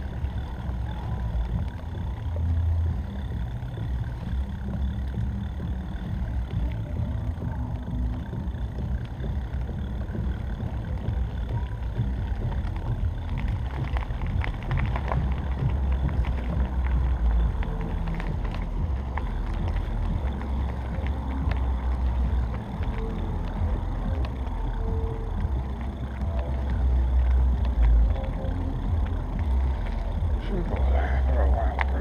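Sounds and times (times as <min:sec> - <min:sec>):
small rattles and clicks: 0:00.0 - 0:32.0
tyres rolling on ground: 0:00.0 - 0:32.0
wind rumble on microphone: 0:00.0 - 0:32.0.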